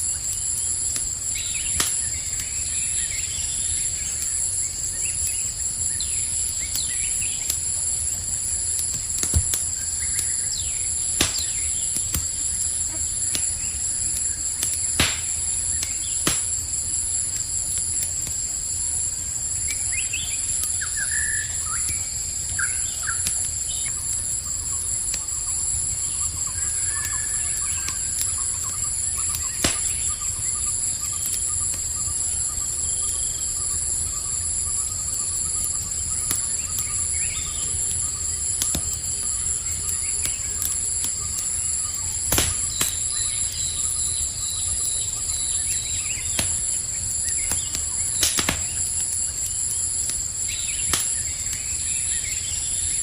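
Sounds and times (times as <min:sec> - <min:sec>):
campfire crackling: 0:00.0 - 0:53.0
crickets trilling: 0:00.0 - 0:53.0.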